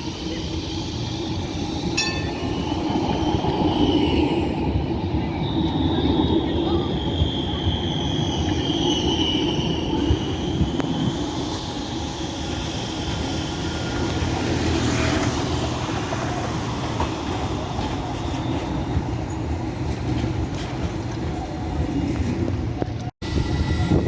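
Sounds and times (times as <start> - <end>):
high wheel squeal: 0.0 - 22.4
tram rumbling on rails: 0.0 - 24.0.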